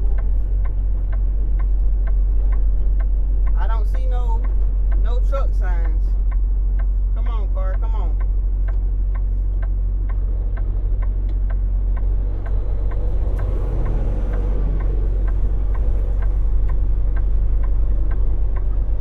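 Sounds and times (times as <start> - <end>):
diesel engine running: 0.0 - 19.0
turn signal clicking: 0.0 - 19.0.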